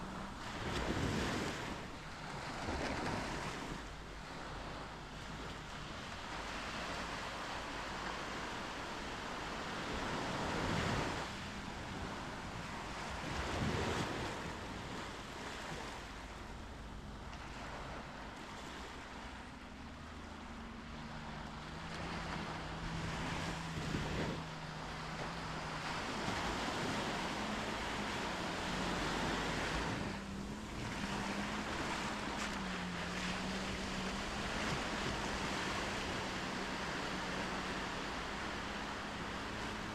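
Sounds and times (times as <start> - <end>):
wind on microphone: 0.0 - 19.6, 20.4 - 39.9
faint low drone: 0.0 - 39.9
waves washing up a beach: 0.0 - 39.9.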